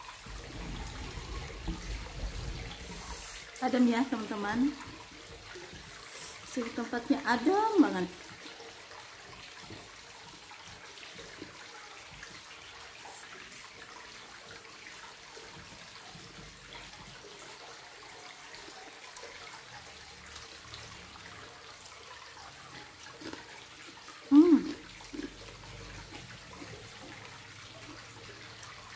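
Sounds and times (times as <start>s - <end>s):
water trickling: 0.0s - 28.9s.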